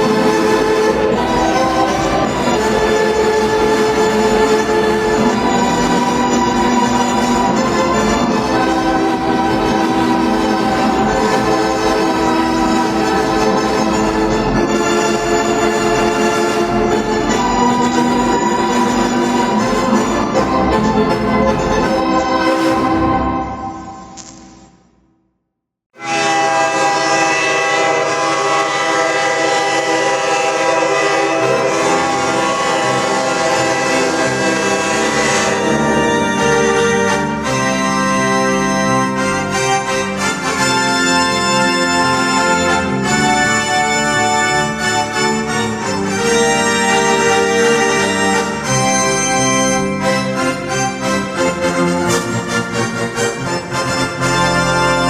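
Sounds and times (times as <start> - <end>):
goal horn chord: 0.0 - 24.3, 26.0 - 55.0
organ music: 0.0 - 24.6, 26.0 - 55.0.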